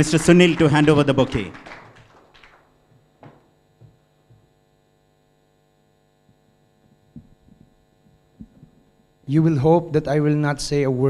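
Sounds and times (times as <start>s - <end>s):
faint mains hum: 0.0s - 11.0s.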